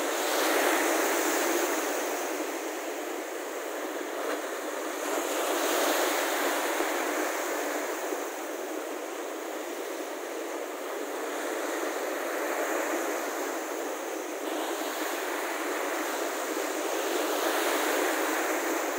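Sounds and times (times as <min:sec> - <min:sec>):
small waves breaking on sandy shore: 0:00.0 - 0:18.9.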